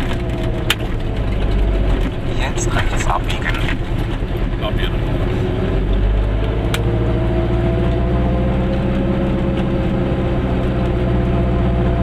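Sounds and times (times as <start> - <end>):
car engine and tyre drone: 0.0 - 12.0.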